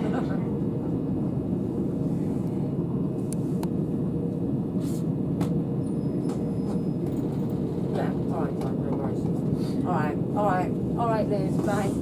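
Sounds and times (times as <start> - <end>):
train rumble from inside carriage: 0.0 - 12.0.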